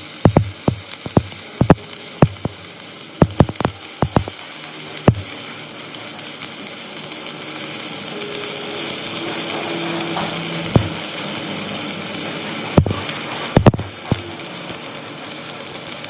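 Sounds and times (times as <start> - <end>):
mechanical hiss: 0.0 - 16.0.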